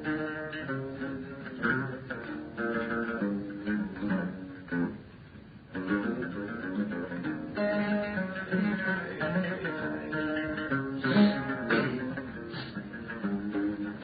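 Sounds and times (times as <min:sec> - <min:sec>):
plucked string instrument melody: 0:00.0 - 0:14.0.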